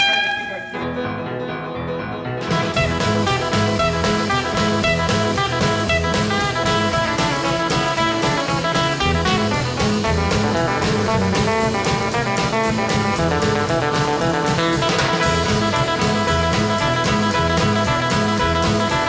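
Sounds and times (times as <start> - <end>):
drum kit beat: 0.0 - 0.8, 2.5 - 19.0
guitar: 0.0 - 19.0
upbeat jazzy music: 2.2 - 19.0.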